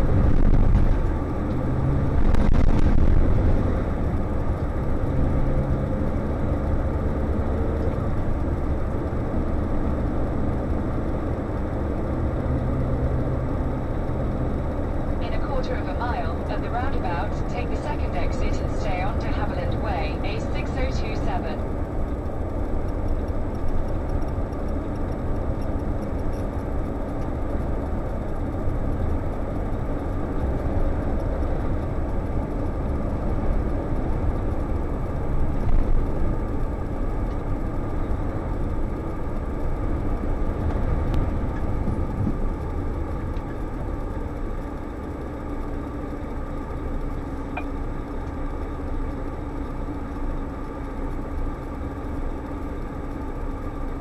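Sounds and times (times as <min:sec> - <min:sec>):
road noise: 0:00.0 - 0:54.0
truck engine: 0:00.0 - 0:54.0.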